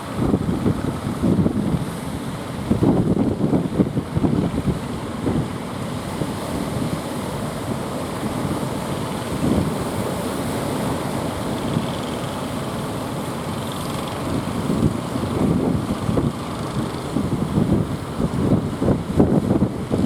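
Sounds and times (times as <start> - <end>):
wind buffeting microphone: 0.0 - 12.1, 13.8 - 20.0
sea surf rushing: 0.0 - 20.0.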